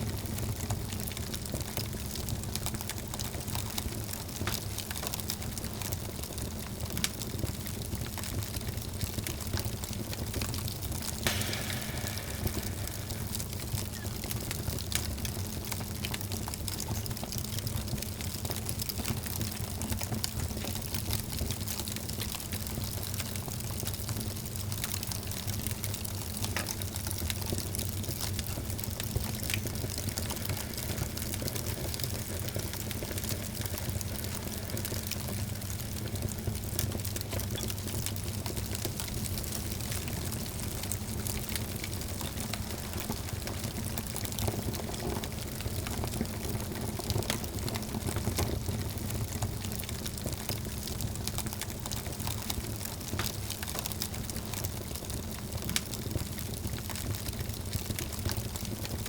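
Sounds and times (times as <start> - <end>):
fire hissing and rumbling: 0.0 - 54.8
fire crackles and pops: 0.0 - 59.0.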